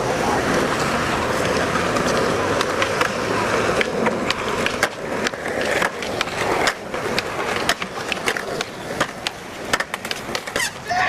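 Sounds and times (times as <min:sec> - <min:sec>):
sharp skateboard clicks: 0:00.0 - 0:11.0
skateboard wheels rumbling on pavement: 0:00.0 - 0:11.0.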